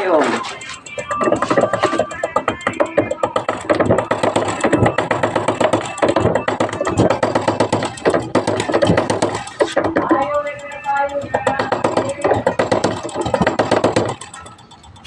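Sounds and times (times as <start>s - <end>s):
person singing: 0.0s - 14.1s
music with fast beat: 0.0s - 15.0s.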